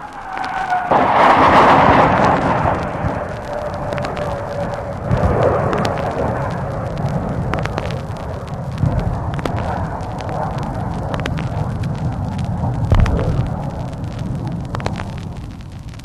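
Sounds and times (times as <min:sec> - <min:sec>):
vinyl record crackle and pops: 0:00.0 - 0:16.0
explosion booming and rumbling: 0:00.9 - 0:16.0.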